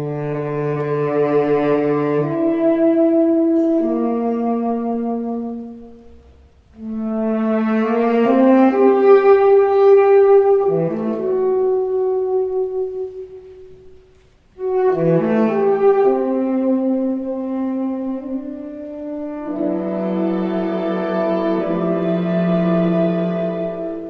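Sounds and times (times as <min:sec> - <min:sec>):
chamber ensemble playing chords: 0:00.0 - 0:24.0.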